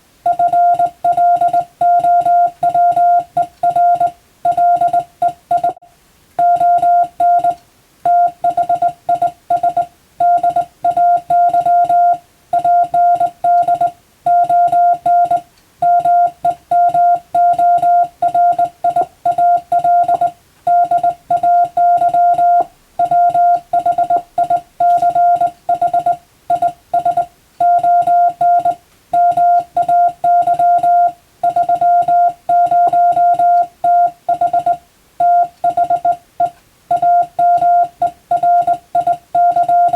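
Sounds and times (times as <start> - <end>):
morse code beeps: 0.3 - 5.8, 6.4 - 39.9.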